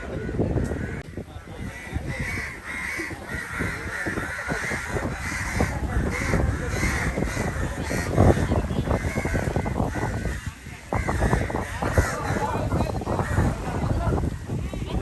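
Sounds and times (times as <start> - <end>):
crows cawing: 0.7 - 13.9.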